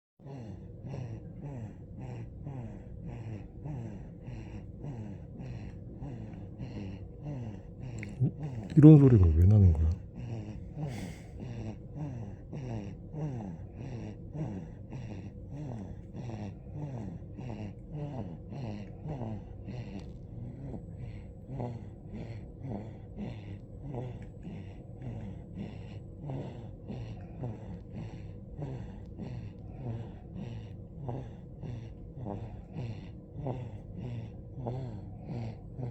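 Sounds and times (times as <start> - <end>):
rattly snoring: 1.0 - 35.9.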